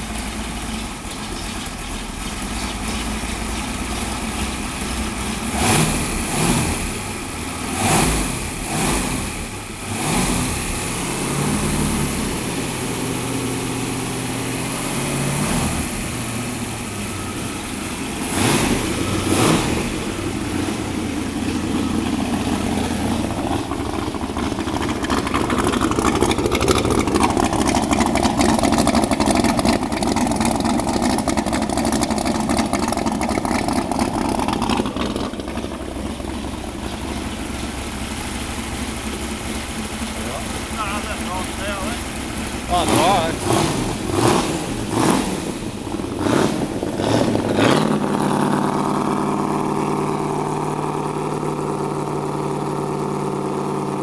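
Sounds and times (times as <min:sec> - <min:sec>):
boat engine running: 0:00.0 - 0:54.0
engine throttle blips: 0:00.0 - 0:54.0
exhaust pouring out cooling water: 0:00.0 - 0:54.0.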